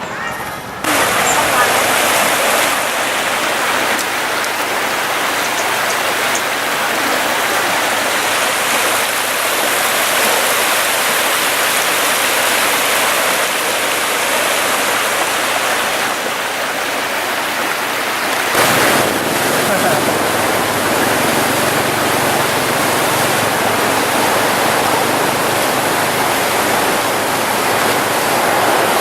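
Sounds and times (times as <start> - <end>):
flood water rushing: 0.0 - 29.0.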